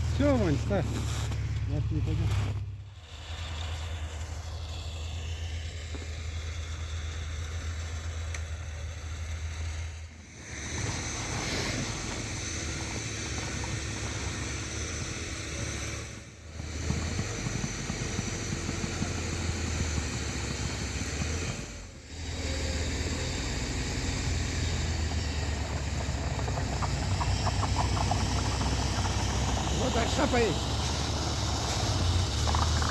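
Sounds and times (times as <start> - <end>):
off-road vehicle engine running: 0.0 - 32.9.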